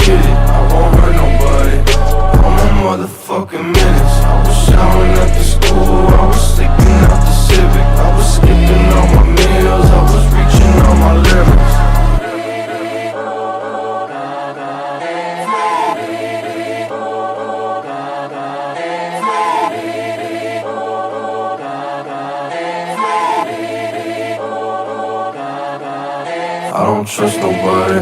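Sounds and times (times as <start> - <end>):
choir-like vocal pad: 0.0 - 28.0.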